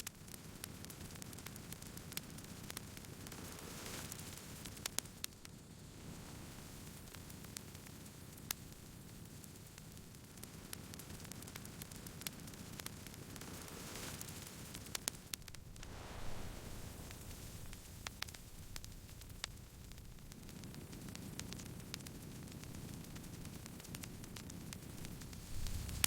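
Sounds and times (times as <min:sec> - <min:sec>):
burning wood crackling and popping: 0:00.0 - 0:26.0
campfire hissing: 0:00.3 - 0:26.0.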